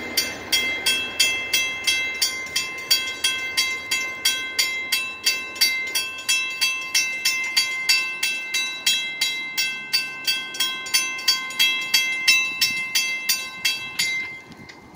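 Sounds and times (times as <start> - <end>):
crossing bell ringing: 0.0 - 14.9.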